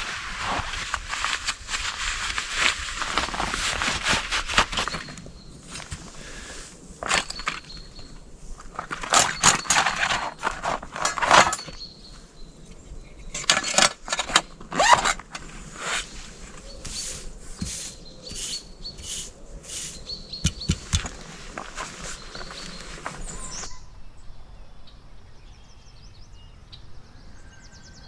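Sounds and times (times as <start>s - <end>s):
camping gear rustling and crunching: 0.0s - 23.8s.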